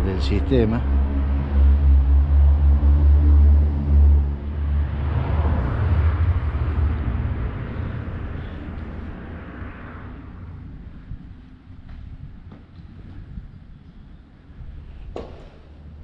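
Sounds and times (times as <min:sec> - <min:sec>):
vehicle passing by: 0:00.0 - 0:13.4.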